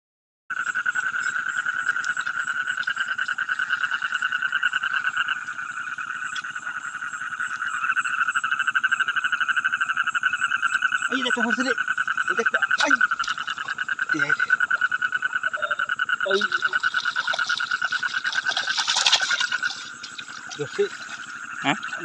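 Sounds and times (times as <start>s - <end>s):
frogs trilling: 0.5s - 22.0s.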